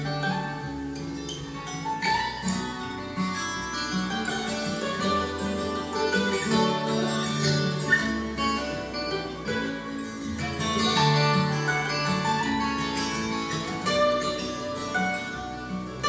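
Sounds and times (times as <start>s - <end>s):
acoustic guitar strumming and picking: 0.0s - 16.0s.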